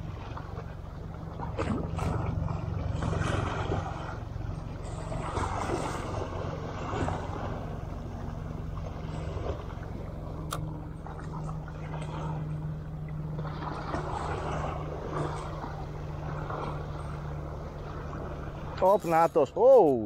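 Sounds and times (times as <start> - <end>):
motor droning: 0.0 - 20.0
water noise: 0.0 - 20.0.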